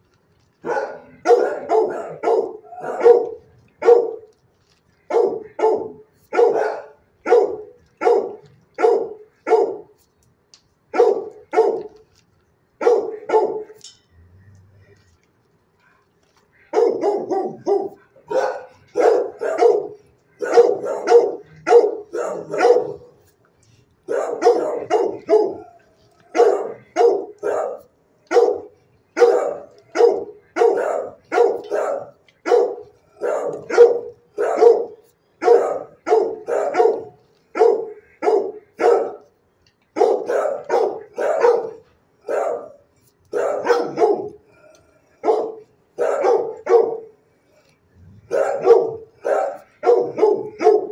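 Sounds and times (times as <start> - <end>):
dog barking: 0.6 - 4.3, 5.1 - 10.0, 10.9 - 12.0, 12.8 - 13.8, 16.7 - 23.3, 24.1 - 39.3, 39.9 - 47.2, 48.2 - 50.9.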